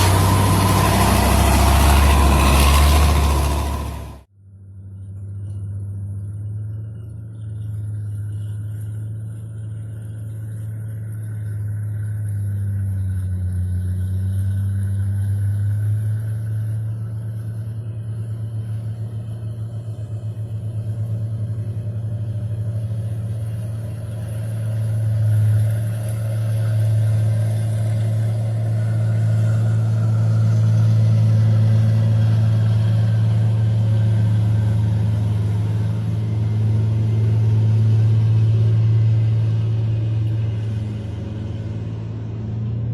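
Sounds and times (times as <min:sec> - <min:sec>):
bulldozer diesel engine droning: 0:00.0 - 0:04.9, 0:05.9 - 0:42.9.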